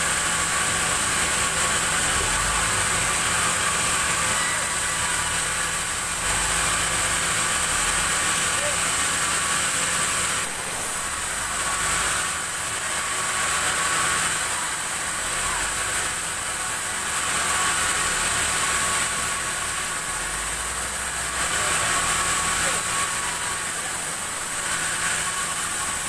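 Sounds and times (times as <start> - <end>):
band saw blade whine: 0.0 - 26.0
low motor hum: 0.0 - 26.0.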